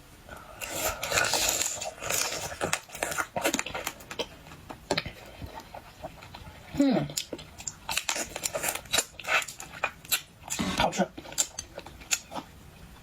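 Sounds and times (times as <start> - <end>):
chewing crunches and clicks: 0.6 - 12.5.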